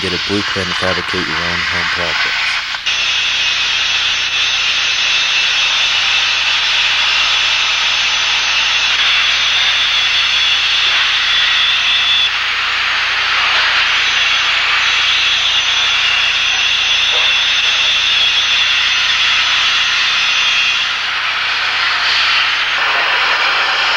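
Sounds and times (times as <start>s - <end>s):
faint high whine: 0.0s - 23.0s
loud steady hiss: 0.0s - 23.9s.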